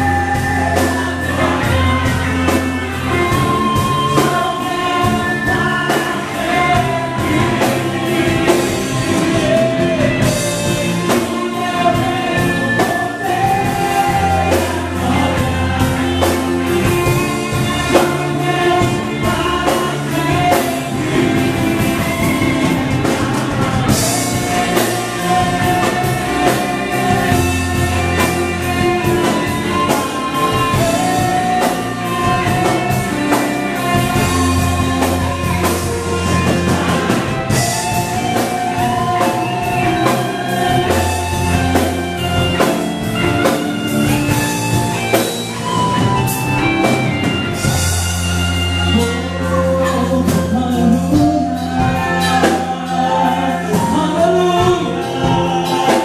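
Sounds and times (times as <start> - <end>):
bass guitar: 0.0 - 56.0
drum kit: 0.0 - 56.0
electric guitar: 0.0 - 56.0
voices singing together: 0.0 - 56.0.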